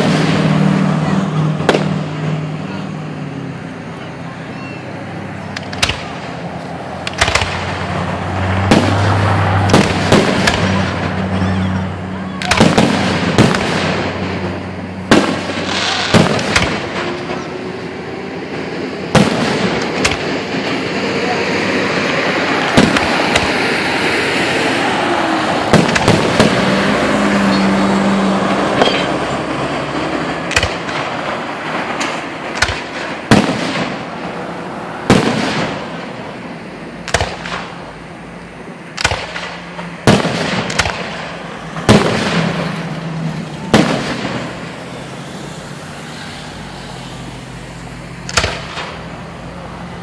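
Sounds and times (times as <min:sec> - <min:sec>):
firework shells booming: 0:00.0 - 0:02.4, 0:05.5 - 0:21.0, 0:21.9 - 0:38.1, 0:38.8 - 0:45.2, 0:48.2 - 0:49.3
loud continuous hiss: 0:00.0 - 0:50.0.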